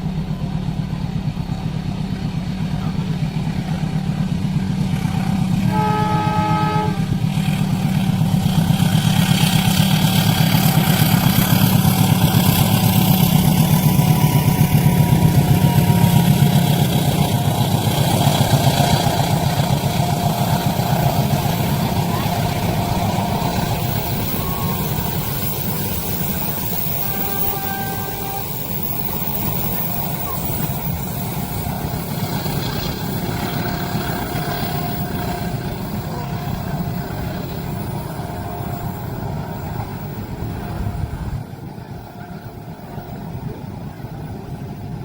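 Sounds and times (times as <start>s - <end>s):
diesel locomotive engine rumble: 0.0s - 45.0s
rushing rail noise: 0.0s - 45.0s
train horn blast: 5.0s - 41.4s.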